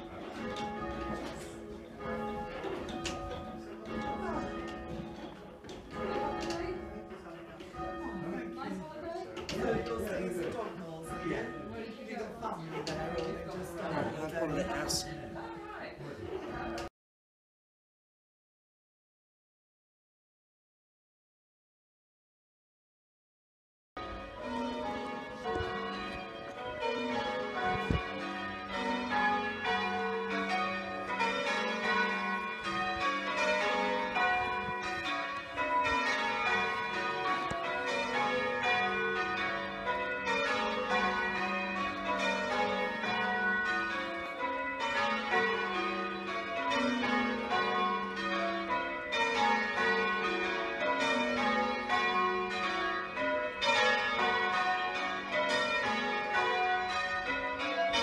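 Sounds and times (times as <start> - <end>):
church bells ringing: 0.0 - 16.9, 24.0 - 58.0.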